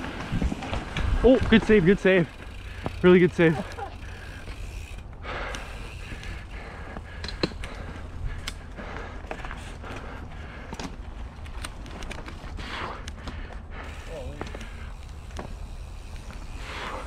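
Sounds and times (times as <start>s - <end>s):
bike rattling and knocking: 0.0s - 12.6s, 13.2s - 17.0s.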